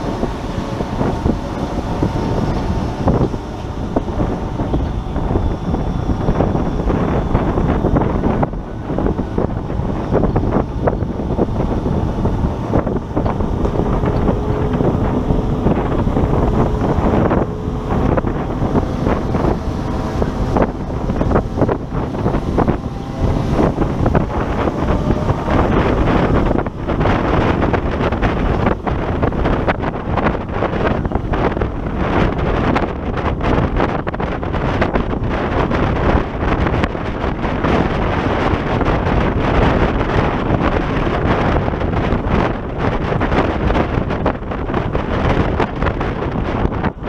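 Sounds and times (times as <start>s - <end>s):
tractor engine rumble: 0.0s - 47.0s
wind buffeting microphone: 0.0s - 47.0s.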